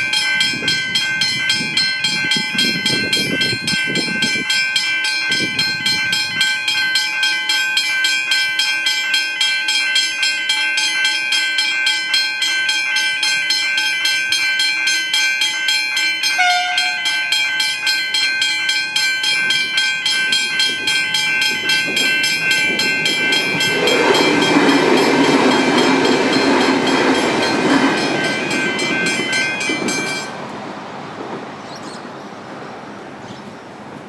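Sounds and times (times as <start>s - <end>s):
level crossing bell ringing: 0.0s - 30.4s
train passing: 0.0s - 34.0s.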